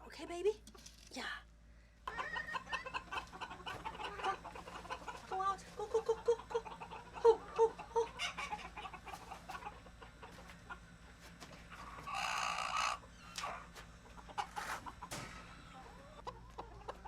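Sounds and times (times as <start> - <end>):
chickens clucking: 2.0 - 17.0
chicken squawking: 2.1 - 17.0.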